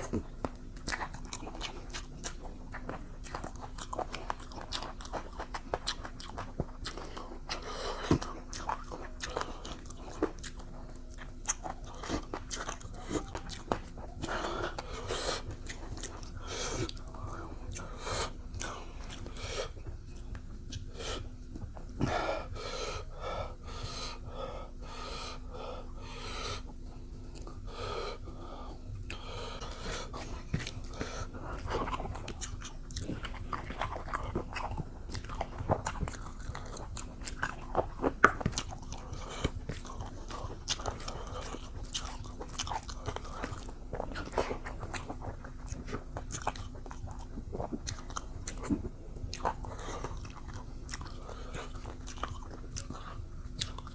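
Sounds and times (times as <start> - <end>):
person chewing with mouth open: 0.0 - 53.9.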